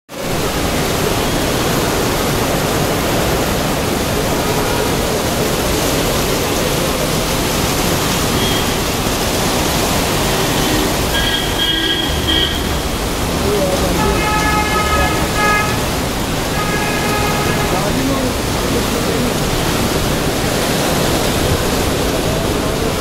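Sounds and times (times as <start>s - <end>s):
heavy rain on pavement: 0.1s - 23.0s.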